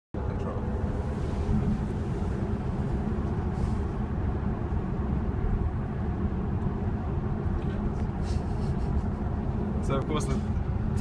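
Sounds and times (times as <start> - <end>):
tyre roar inside car: 0.2 - 11.0.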